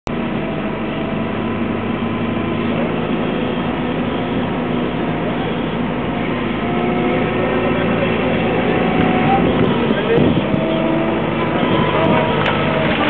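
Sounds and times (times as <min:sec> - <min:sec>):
wheel loader diesel engine running: 0:00.0 - 0:13.0.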